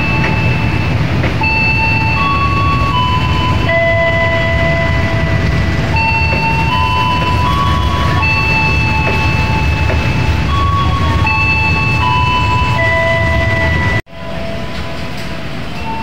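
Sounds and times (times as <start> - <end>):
high held tones: 0.0 - 16.0
train rumbling past: 0.0 - 16.0.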